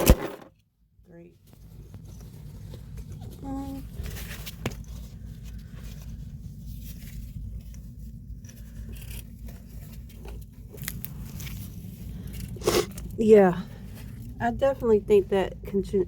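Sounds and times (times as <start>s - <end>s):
steady low hum: 0.0s - 16.0s
rustling and scraping handling: 1.4s - 15.4s.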